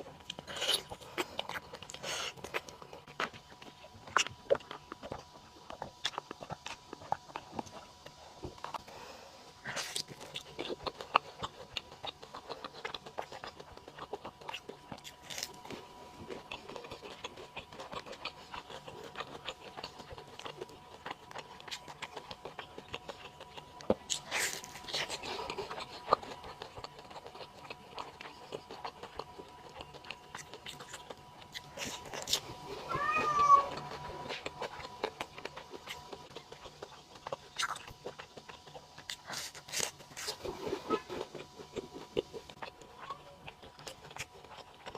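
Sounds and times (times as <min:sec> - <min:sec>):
chewing burger: 0:00.0 - 0:44.9.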